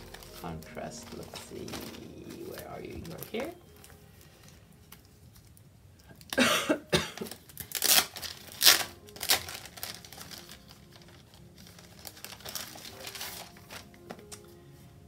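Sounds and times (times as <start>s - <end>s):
plastic covers crinkling: 0.0s - 15.0s.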